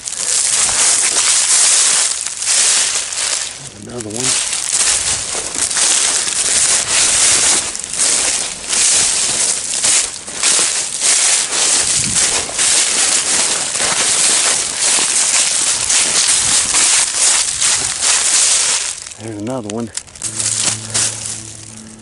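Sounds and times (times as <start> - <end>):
footsteps crunching through dry leaves: 0.0 - 22.0.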